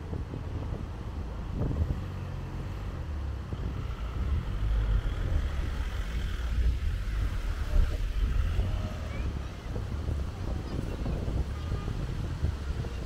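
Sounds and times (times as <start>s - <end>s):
motor traffic rumble: 0.0s - 13.0s
wind buffeting microphone: 0.0s - 13.0s.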